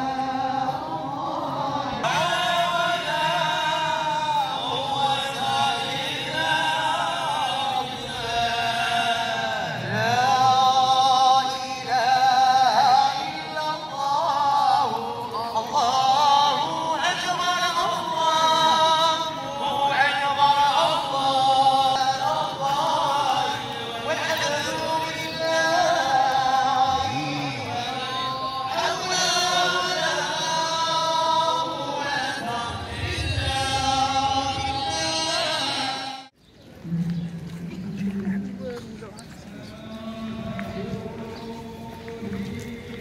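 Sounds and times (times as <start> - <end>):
voices singing a chant in chorus: 0.0 - 36.4, 39.5 - 43.0.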